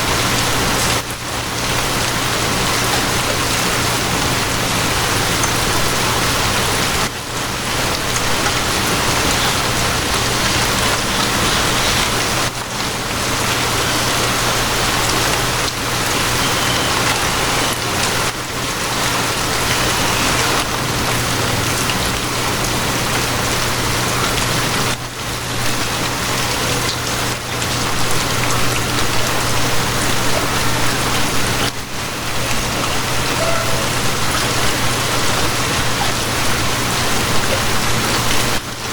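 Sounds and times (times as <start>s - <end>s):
dense rainfall: 0.0s - 38.9s.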